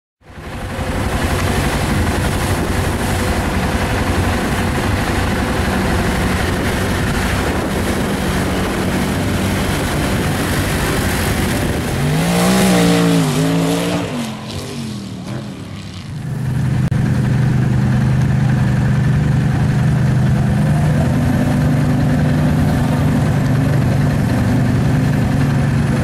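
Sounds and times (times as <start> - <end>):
atv engine running hard: 0.2 - 26.0
diesel truck engine revving: 0.3 - 26.0
water splashing: 0.6 - 26.0.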